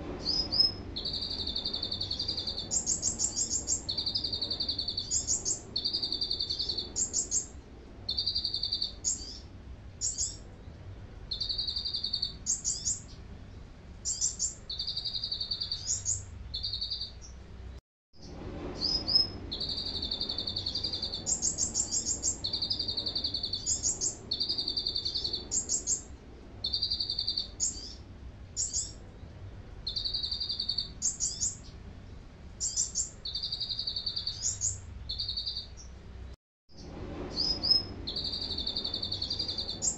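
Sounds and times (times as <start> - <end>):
bird singing trills: 0.2 - 10.5, 11.3 - 13.2, 14.0 - 17.4, 18.8 - 28.0, 28.6 - 29.0, 29.9 - 31.8, 32.6 - 35.9, 37.3 - 39.9.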